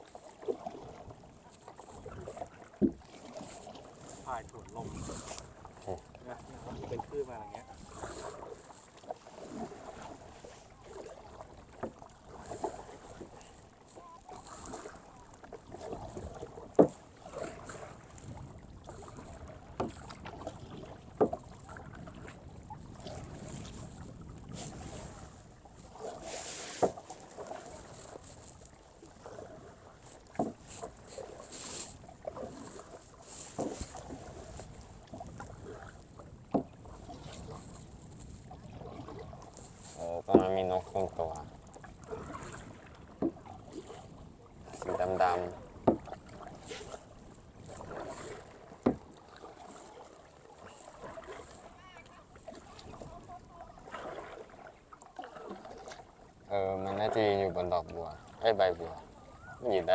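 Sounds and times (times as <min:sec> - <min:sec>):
water splashing from paddle strokes: 0:00.0 - 0:59.9.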